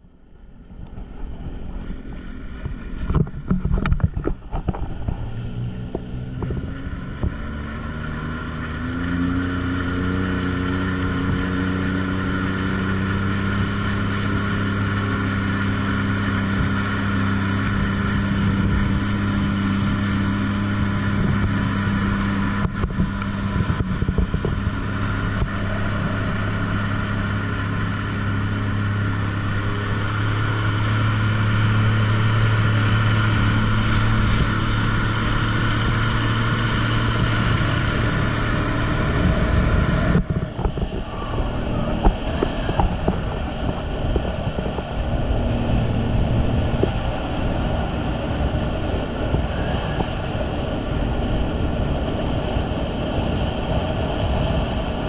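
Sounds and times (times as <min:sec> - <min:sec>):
jet ski engine: 0:00.0 - 0:55.0
wind and water rushing: 0:00.0 - 0:55.0.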